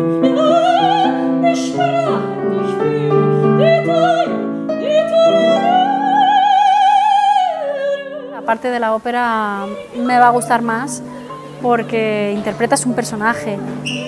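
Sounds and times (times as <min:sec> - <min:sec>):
grand piano accompaniment: 0:00.0 - 0:14.0
soprano singing operatic phrase: 0:00.2 - 0:14.0.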